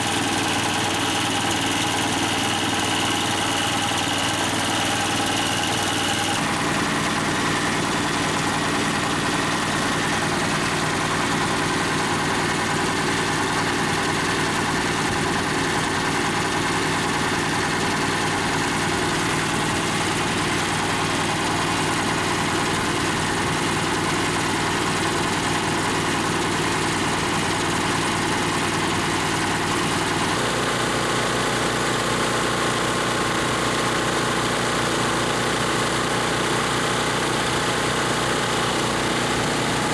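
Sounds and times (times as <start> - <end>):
air compressor pump: 0.0 - 39.9
small gasoline engine running: 0.0 - 39.9.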